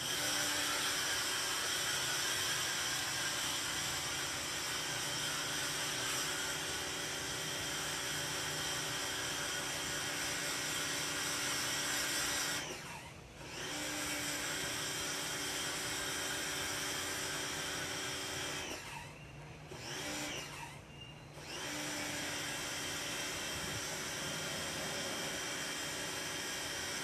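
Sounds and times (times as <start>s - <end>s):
pressure washer motor hum: 0.0s - 18.9s, 21.4s - 27.0s.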